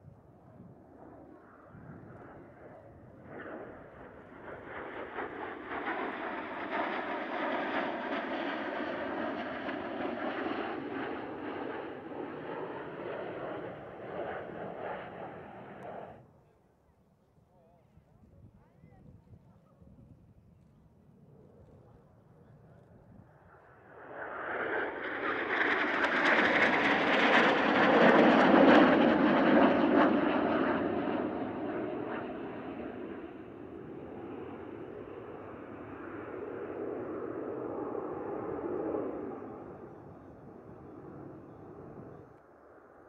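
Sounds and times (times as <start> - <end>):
jets flying past: 0.7 - 16.2, 23.3 - 43.0.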